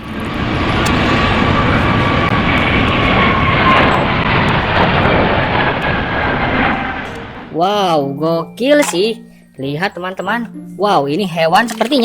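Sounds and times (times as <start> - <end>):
airplane engine running: 0.0 - 12.0.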